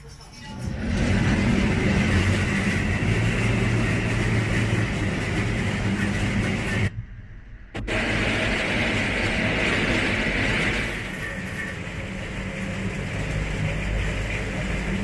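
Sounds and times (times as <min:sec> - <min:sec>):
cable car rolling and rattling: 0:00.0 - 0:06.9, 0:07.8 - 0:15.0
low hum: 0:00.3 - 0:15.0.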